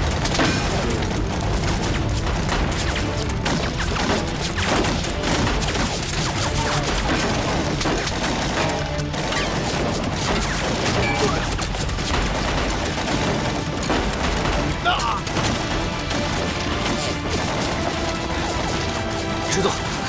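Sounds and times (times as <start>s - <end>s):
background music: 0.0s - 20.0s
explosions: 0.0s - 20.0s
gunfire volleys: 0.0s - 20.0s.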